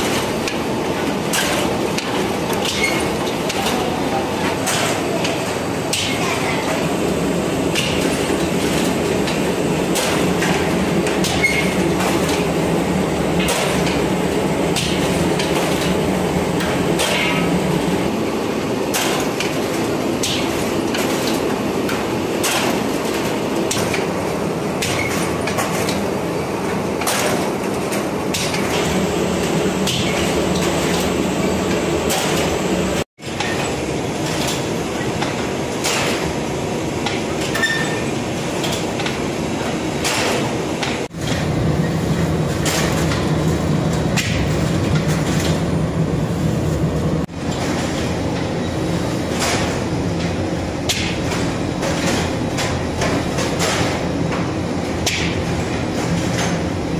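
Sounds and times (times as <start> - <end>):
bread machine mechanical rumble: 0.0 - 56.9.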